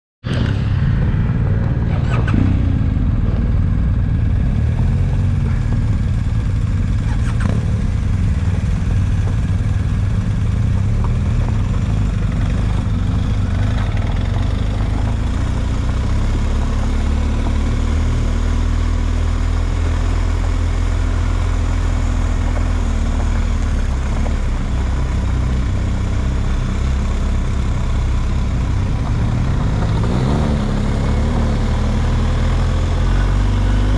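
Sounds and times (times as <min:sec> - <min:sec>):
vehicle engine running: 0:00.2 - 0:33.9.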